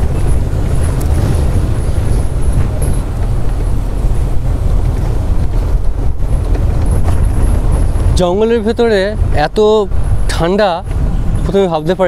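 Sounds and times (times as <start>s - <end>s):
jeep engine and road rumble: 0.0s - 12.0s
wind buffeting microphone: 0.0s - 12.0s.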